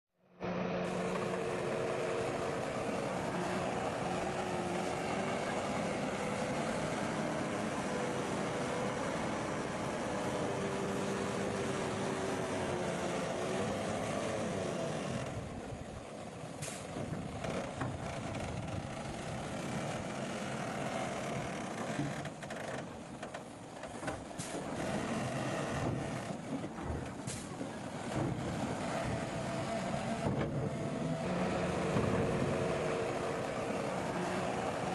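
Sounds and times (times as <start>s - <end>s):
heavy machinery engines droning: 0.2s - 34.9s.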